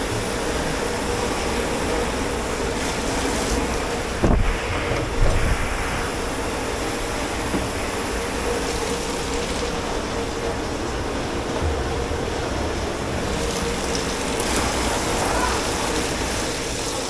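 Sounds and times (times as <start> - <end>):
kitchen machinery whirring: 0.0 - 17.0.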